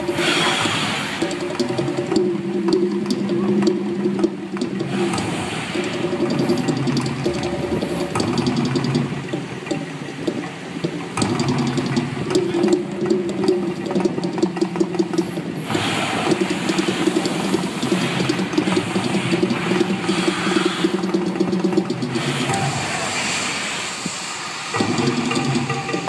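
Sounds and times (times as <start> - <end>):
gas fire jets hissing: 0.0 - 26.0.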